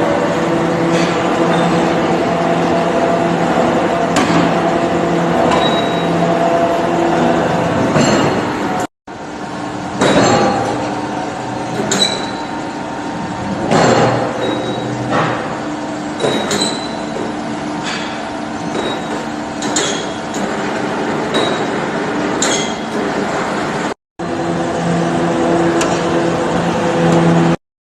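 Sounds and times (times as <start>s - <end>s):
forging machine hum: 0.0s - 27.6s.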